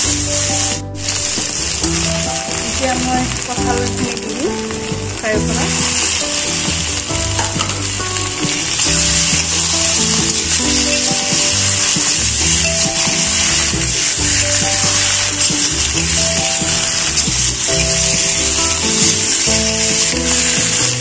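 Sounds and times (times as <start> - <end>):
background music with simple melody: 0.0 - 21.0
food sizzling in hot oil: 0.0 - 21.0
metal spatula scraping wok: 0.0 - 21.0.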